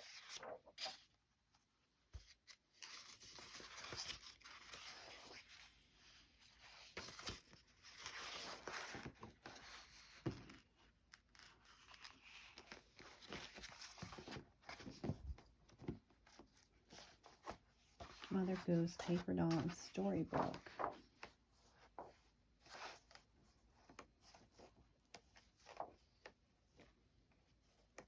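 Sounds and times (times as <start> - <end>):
paper rustling and shuffling: 0.0 - 1.2, 2.1 - 28.0.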